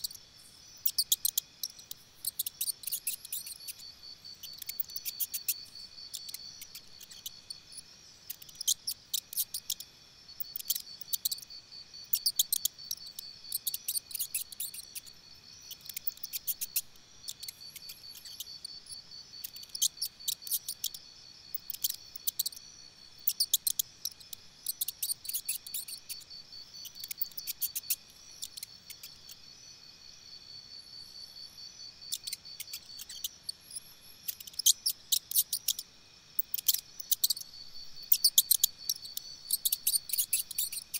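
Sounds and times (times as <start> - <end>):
insect chirping: 0.0 - 40.9.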